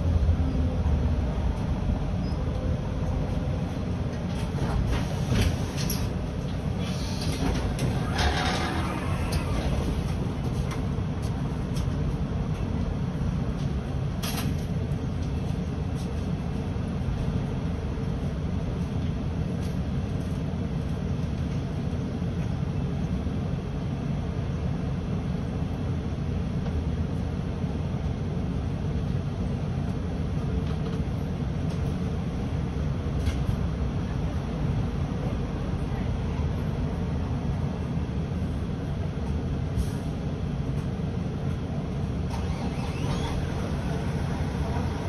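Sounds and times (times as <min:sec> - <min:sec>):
bus driving rumble: 0:00.0 - 0:45.0.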